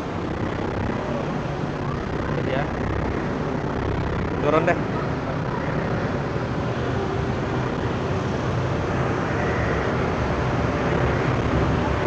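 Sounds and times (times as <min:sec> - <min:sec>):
propeller wake rushing: 0:00.0 - 0:12.0
ship engines droning: 0:00.0 - 0:12.0.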